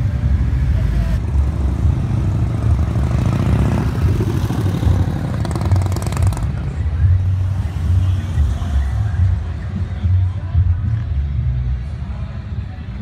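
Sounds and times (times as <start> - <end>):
motorcycle engines running: 0.0 - 12.2.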